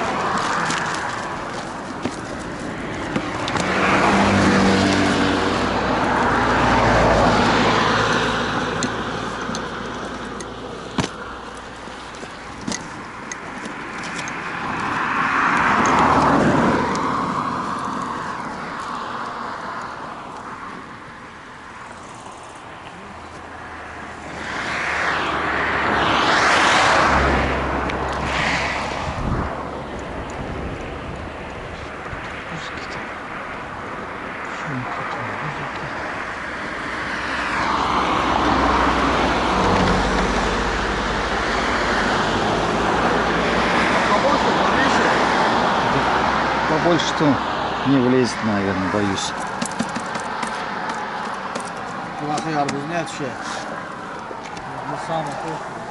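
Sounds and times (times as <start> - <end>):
cars passing: 0.0 - 55.9.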